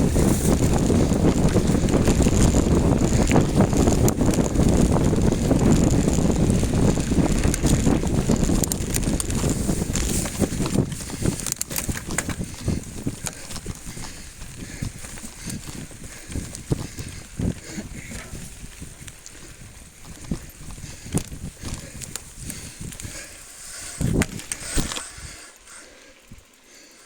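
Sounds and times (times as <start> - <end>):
wind rumbling on microphone: 0.0 - 26.6
bike clicks and rattles: 0.0 - 27.0.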